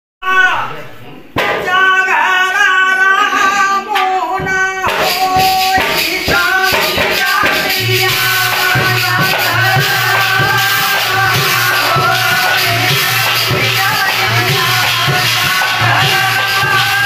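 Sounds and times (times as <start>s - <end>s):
dholak drum: 1.4s - 2.6s, 3.3s - 17.0s.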